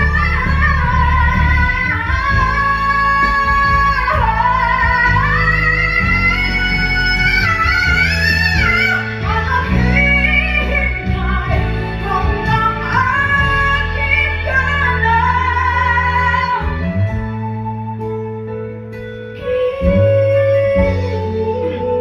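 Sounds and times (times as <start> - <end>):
instrumental backing track: 0.0 - 22.0
woman singing a ballad: 0.0 - 22.0.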